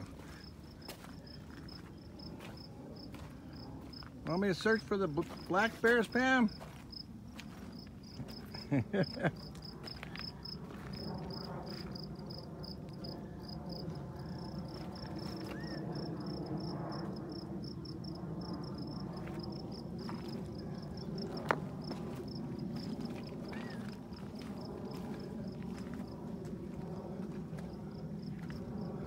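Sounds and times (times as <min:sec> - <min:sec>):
cricket chirping: 0:00.0 - 0:04.1, 0:06.5 - 0:26.1, 0:27.0 - 0:29.0.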